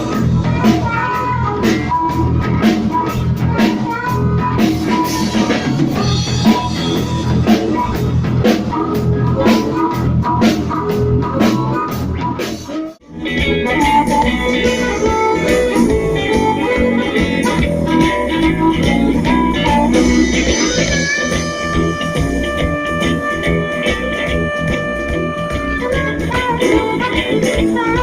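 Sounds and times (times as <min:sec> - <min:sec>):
guitar piece: 0:00.0 - 0:28.0
rock music with drums and guitar: 0:00.0 - 0:28.0.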